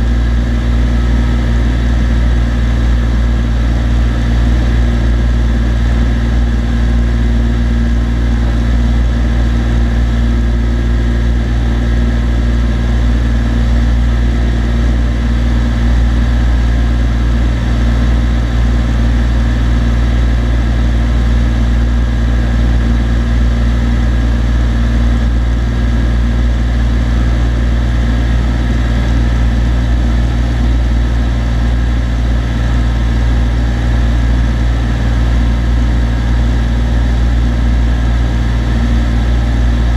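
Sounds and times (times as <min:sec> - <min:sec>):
airplane engine droning: 0:00.0 - 0:39.9.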